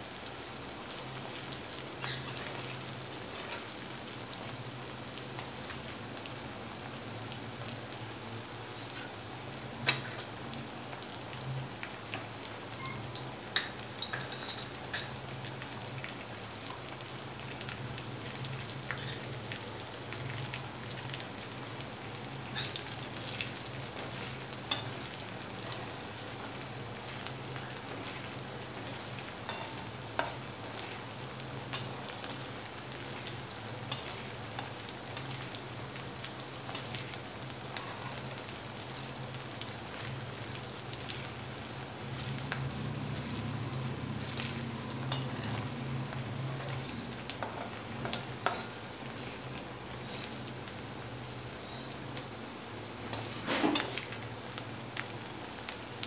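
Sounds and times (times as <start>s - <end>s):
onion sizzling in oil: 0.0s - 56.0s.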